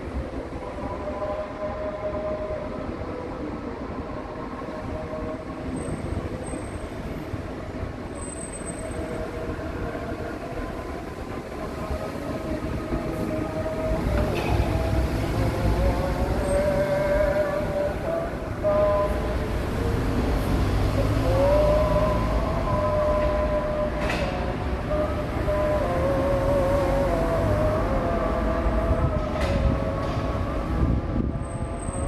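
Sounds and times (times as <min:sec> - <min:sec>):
low train rumble: 0:00.0 - 0:32.0.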